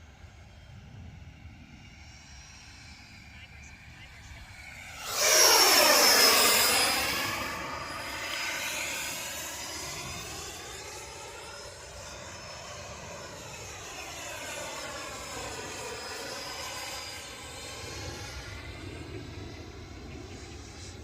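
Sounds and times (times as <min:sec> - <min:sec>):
model jet ducted fan whine: 0:00.0 - 0:21.0.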